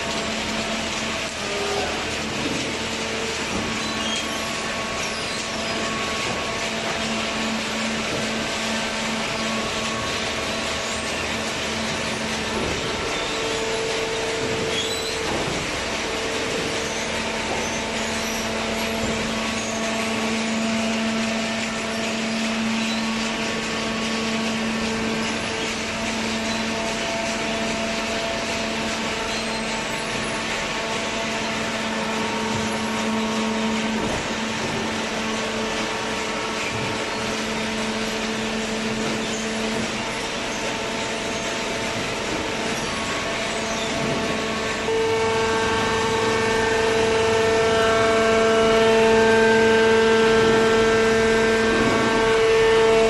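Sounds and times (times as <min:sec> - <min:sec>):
baler machinery humming: 0:00.0 - 0:53.0.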